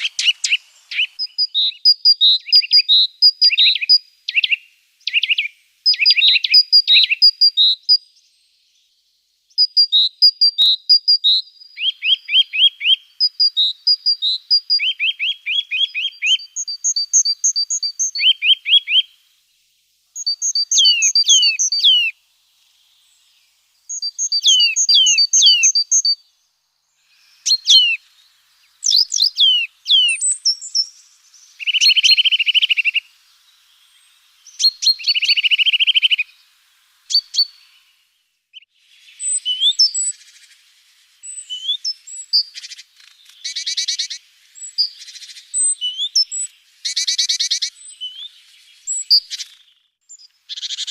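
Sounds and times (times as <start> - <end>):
small songbirds singing: 0.0 - 50.9.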